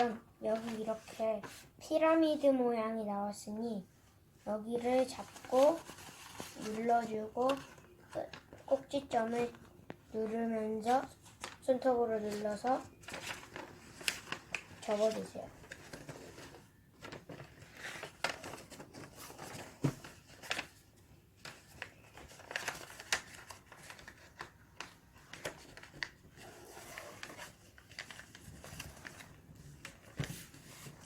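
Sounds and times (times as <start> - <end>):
paper being folded: 0.0 - 1.5, 4.8 - 31.0.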